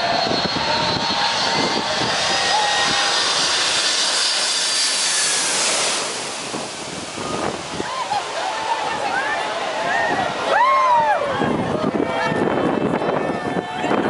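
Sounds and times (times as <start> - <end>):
jet passing low overhead: 0.0 - 14.0.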